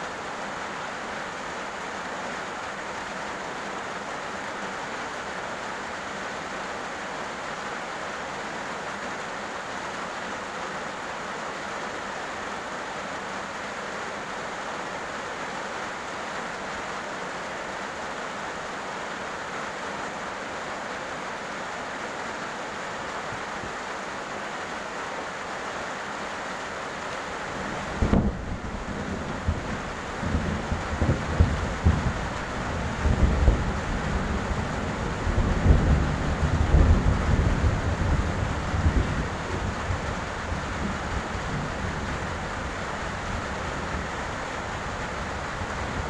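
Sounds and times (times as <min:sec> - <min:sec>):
heavy rain on a road: 0:00.0 - 0:46.0.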